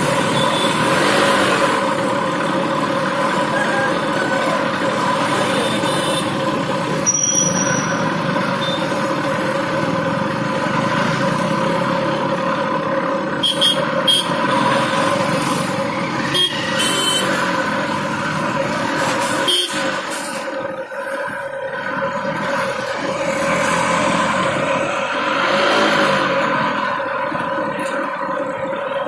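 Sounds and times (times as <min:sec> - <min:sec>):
motorcycles passing: 0:00.0 - 0:07.2, 0:07.8 - 0:29.0
vehicle engines running: 0:00.0 - 0:29.0.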